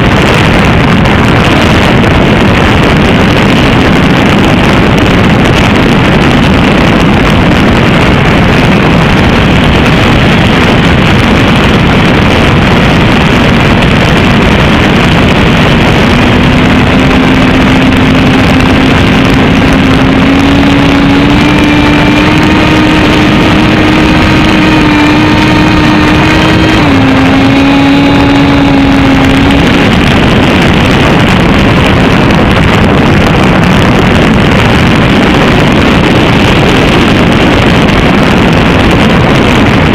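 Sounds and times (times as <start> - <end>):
drone propellers whirring: 0.0 - 39.9
wind on microphone: 0.0 - 39.9.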